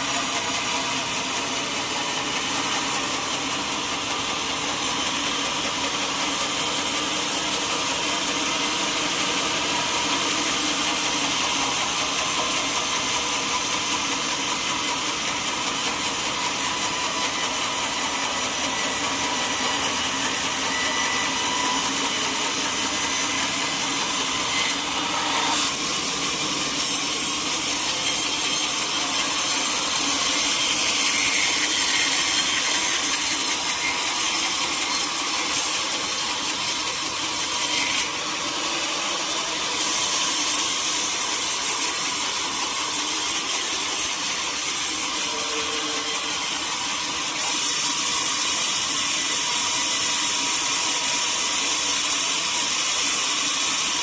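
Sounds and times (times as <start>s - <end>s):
sawmill saw cutting wood: 0.0s - 54.0s.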